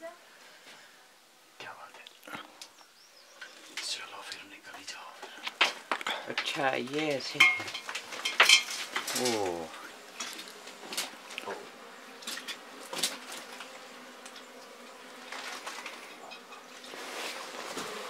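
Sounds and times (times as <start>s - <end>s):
bees buzzing: 2.5s - 18.0s.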